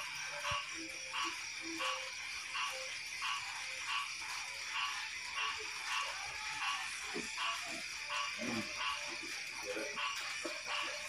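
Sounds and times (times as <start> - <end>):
high-pitched drone of night creatures: 0.0 - 11.0.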